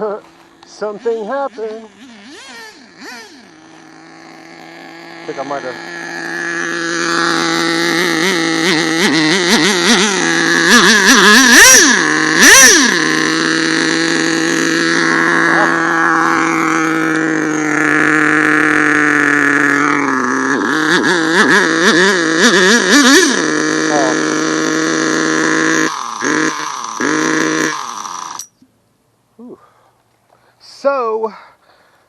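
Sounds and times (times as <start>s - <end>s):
model engine revving: 0.0s - 28.6s.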